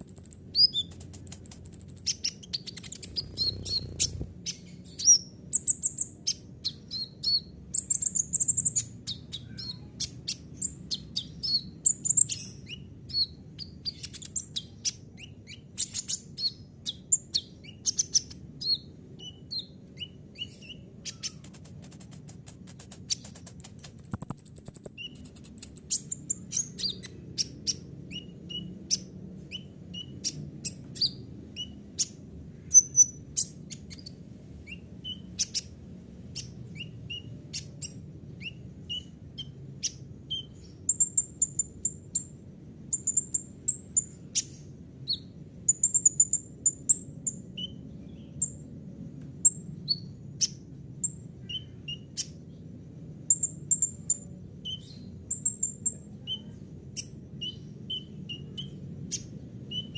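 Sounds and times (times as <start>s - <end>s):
bird chirping: 0.0s - 48.8s, 49.4s - 59.9s
faint low hum: 0.0s - 59.9s.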